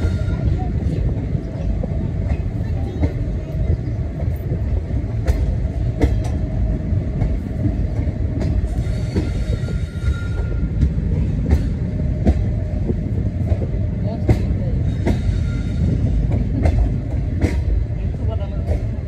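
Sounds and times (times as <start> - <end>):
train coach rumbling: 0.0 - 19.0.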